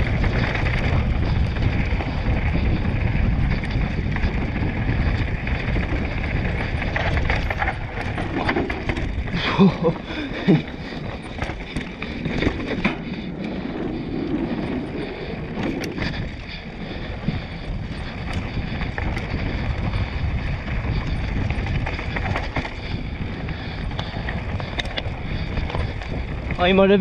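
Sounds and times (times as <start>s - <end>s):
bike rattling clacks: 0.0s - 27.0s
tyres rolling on dirt and stones: 0.0s - 27.0s
wind rushing over microphone: 0.0s - 27.0s.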